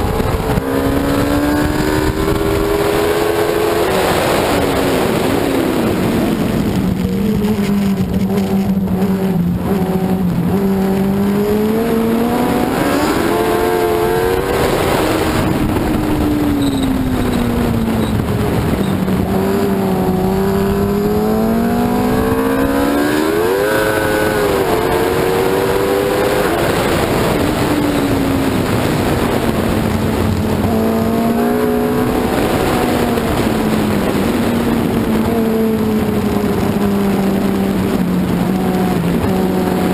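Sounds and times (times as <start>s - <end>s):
racing engine accelerating and braking: 0.0s - 39.9s
wind rush: 0.0s - 39.9s.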